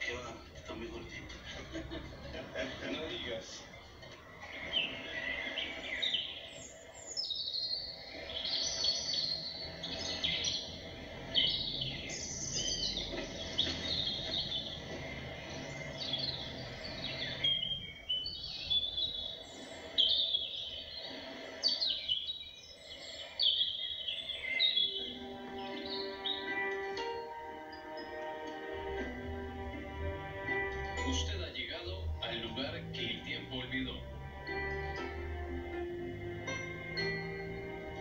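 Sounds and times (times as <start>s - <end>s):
birds chirping and singing: 0.0s - 38.0s.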